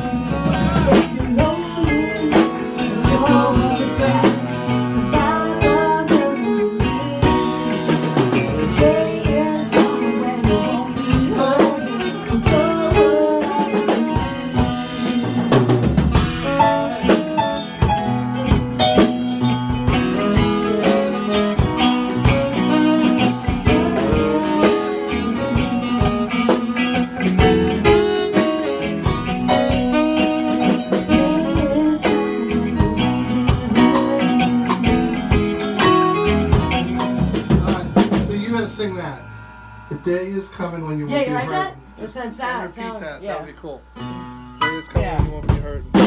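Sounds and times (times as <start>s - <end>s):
live band playing: 0.0s - 46.0s.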